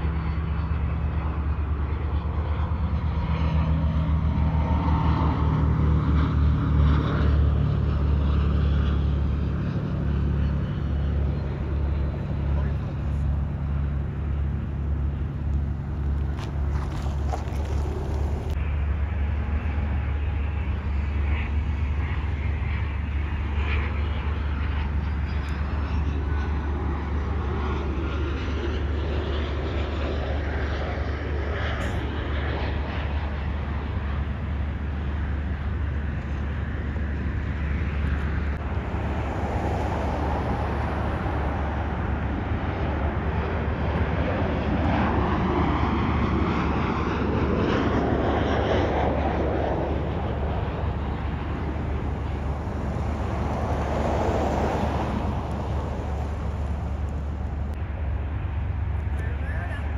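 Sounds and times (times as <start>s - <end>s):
jet airliner engine noise: 0.0s - 59.9s
steady low rumble: 0.0s - 59.9s.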